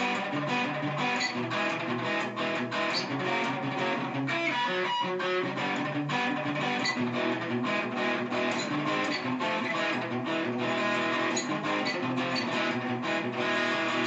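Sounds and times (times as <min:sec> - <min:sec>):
guitar strumming: 0:00.0 - 0:14.0.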